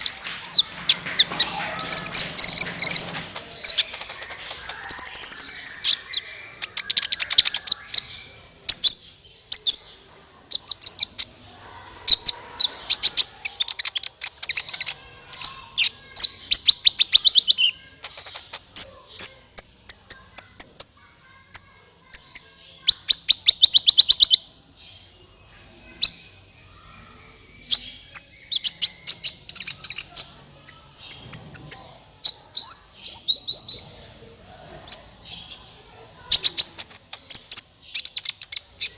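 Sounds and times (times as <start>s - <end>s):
sunbird chirping and trilling: 0.0s - 38.9s.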